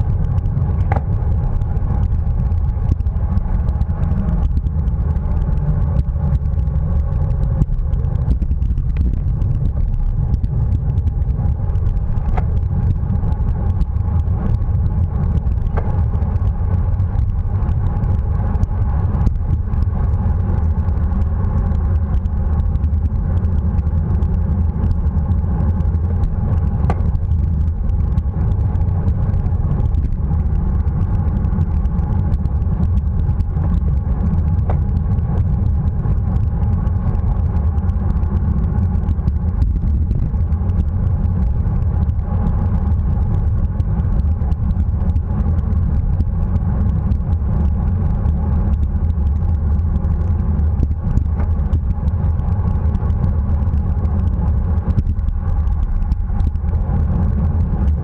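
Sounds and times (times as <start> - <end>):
road and tyre noise: 0.0 - 58.0
wind rumble on microphone: 0.0 - 58.0.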